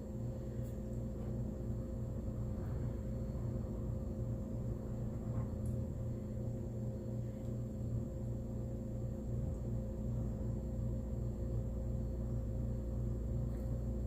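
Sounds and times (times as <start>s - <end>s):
faint high whine: 0.0s - 14.0s
low hum: 0.0s - 14.0s.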